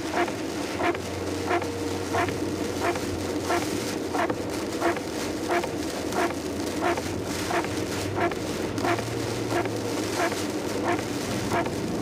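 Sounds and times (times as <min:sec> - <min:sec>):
heavy rain: 0:00.0 - 0:12.0
low engine hum: 0:00.0 - 0:12.0
wet tyres on road: 0:00.0 - 0:12.0
windshield wipers sweeping: 0:00.0 - 0:12.0.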